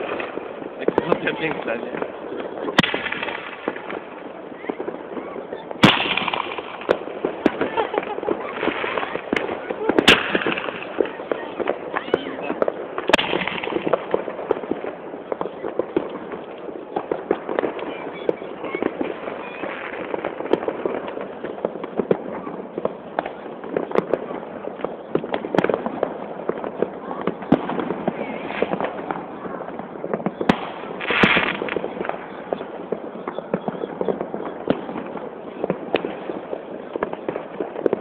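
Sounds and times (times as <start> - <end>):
distant fireworks bangs and crackles: 0.0 - 38.0
hissing firework burst: 0.0 - 38.0.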